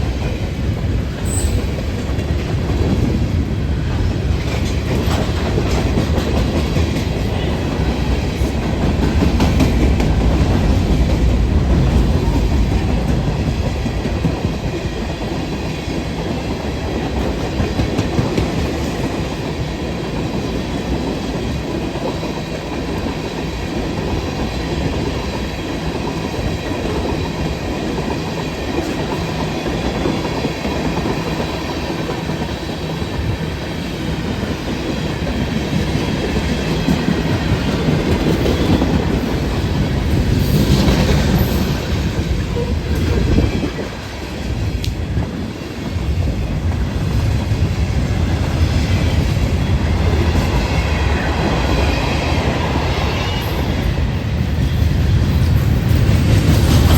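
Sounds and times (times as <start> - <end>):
train rumbling past: 0.0 - 56.9.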